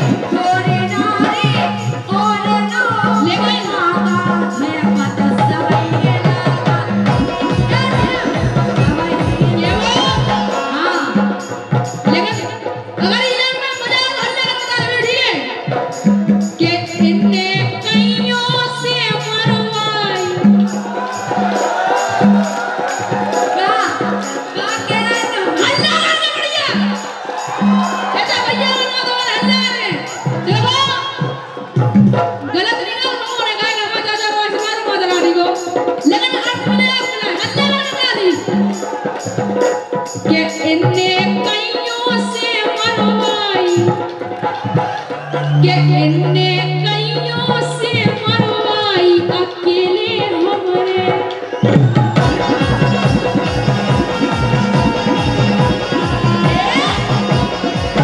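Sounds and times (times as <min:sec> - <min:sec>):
drums: 0:00.0 - 0:58.0
jingling percussion: 0:00.0 - 0:58.0.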